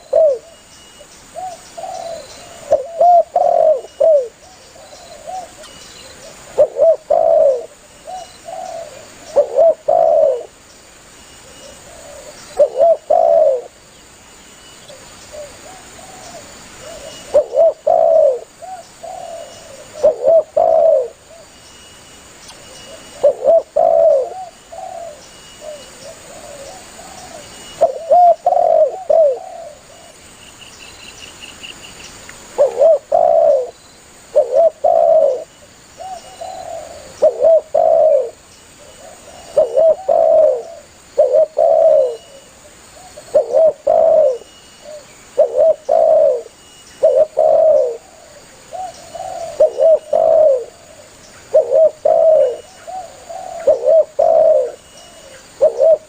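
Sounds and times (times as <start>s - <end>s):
dove cooing: 0.0s - 0.6s, 1.4s - 10.6s, 11.4s - 13.8s, 14.9s - 21.5s, 22.6s - 30.2s, 32.5s - 56.0s.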